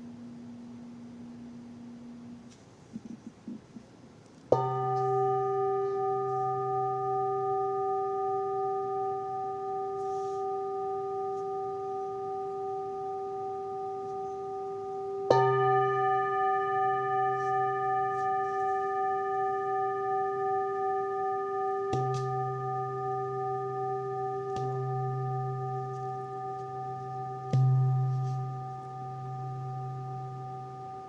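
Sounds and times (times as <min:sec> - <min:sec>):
singing bowl ringing: 0:04.5 - 0:31.0.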